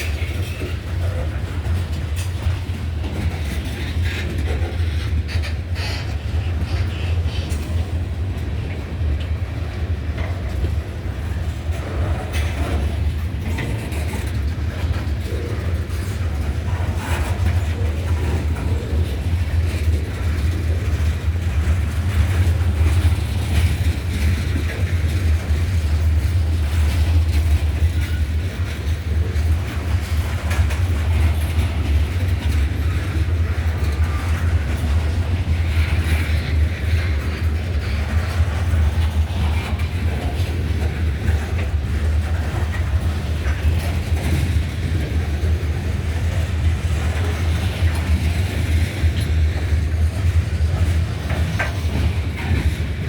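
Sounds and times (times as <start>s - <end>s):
freight train cars rumbling: 0.0s - 53.0s
steel wheels clicking on rails: 0.0s - 53.0s.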